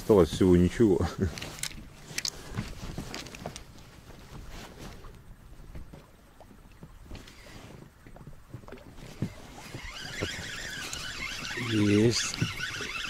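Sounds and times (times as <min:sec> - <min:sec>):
knocks and rustling in boat: 0:00.0 - 0:13.0
wind and water rumble: 0:00.0 - 0:13.0.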